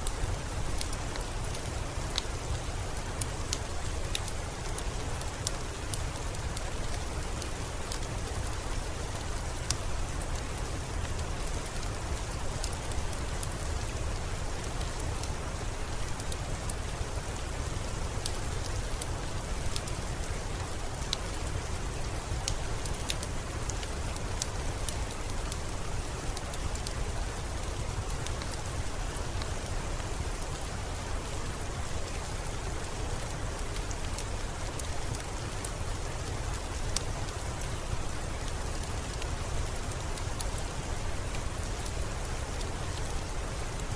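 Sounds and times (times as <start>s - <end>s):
rain drops ticking: 0.0s - 43.9s
steady rainfall: 0.0s - 43.9s.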